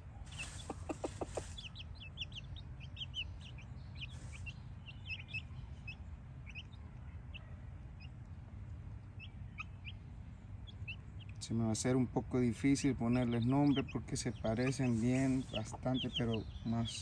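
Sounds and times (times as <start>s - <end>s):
chicks peeping: 0.0s - 17.0s
low steady rumble: 0.0s - 17.0s.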